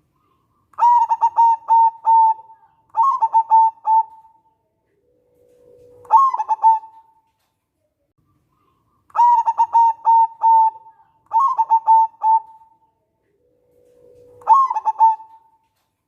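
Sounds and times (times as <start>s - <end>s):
dove cooing: 0.3s - 7.2s, 9.2s - 15.8s.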